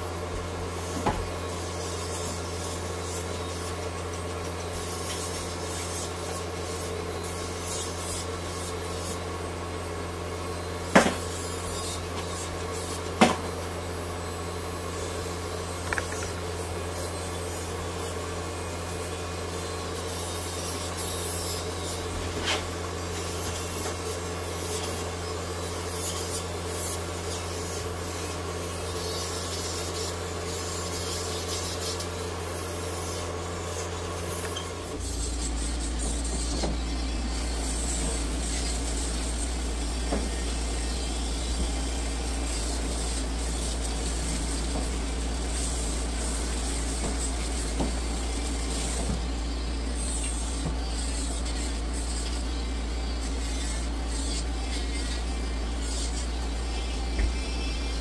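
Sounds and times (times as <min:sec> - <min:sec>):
electric clippers humming: 0:00.0 - 0:58.0.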